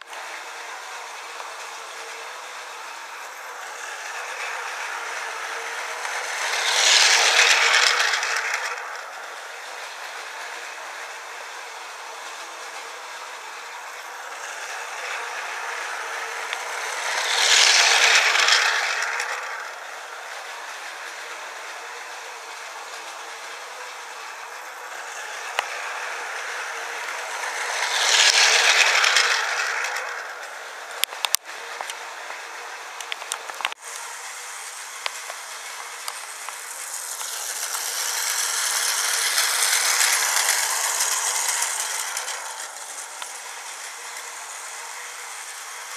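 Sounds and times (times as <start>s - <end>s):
toy train whirring rattle: 0.0s - 45.9s.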